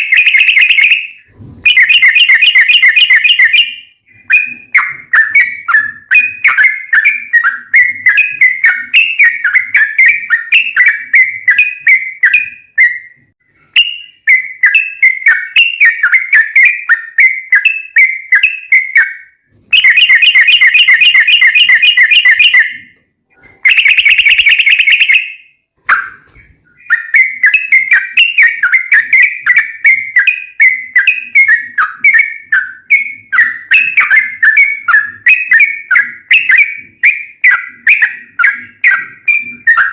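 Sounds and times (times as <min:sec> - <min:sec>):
bulbul chirping song: 0:00.0 - 0:13.2, 0:13.8 - 0:22.9, 0:23.6 - 0:39.9.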